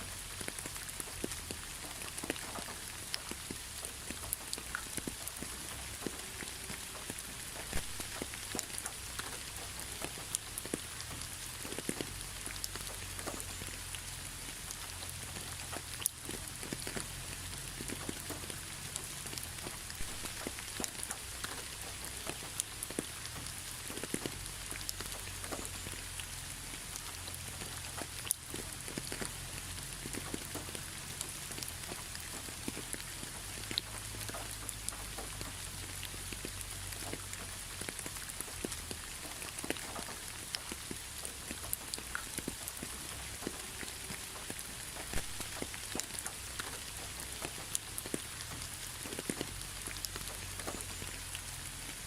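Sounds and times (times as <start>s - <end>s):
steady rain falling: 0.0s - 52.0s
drops ticking on a hard surface: 0.3s - 51.9s.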